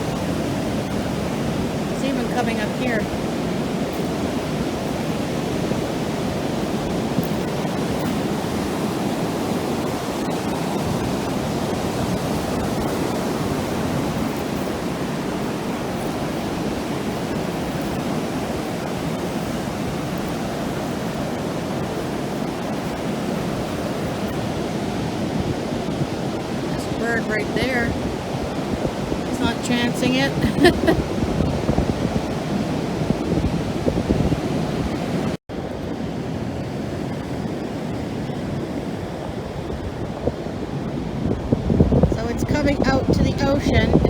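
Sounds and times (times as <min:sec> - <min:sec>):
ocean surf breaking on beach: 0:00.0 - 0:44.0.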